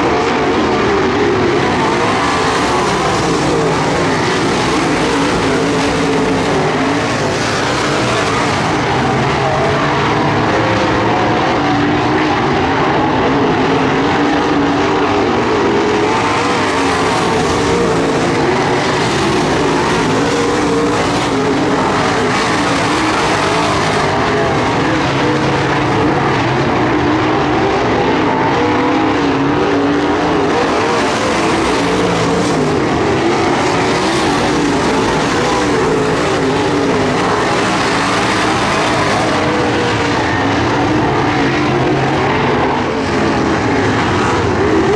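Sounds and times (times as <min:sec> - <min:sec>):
race car engines roaring by: 0:00.0 - 0:44.9.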